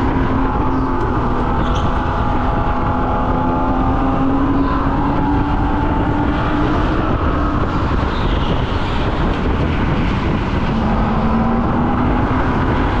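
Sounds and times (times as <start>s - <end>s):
go-kart motor running: 0.0s - 13.0s.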